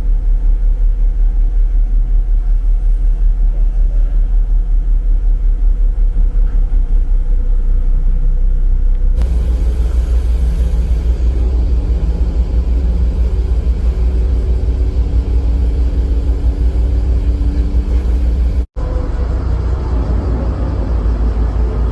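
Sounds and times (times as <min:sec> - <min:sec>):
faint hum: 0:00.0 - 0:21.9
ferry engines rumbling: 0:00.0 - 0:21.9.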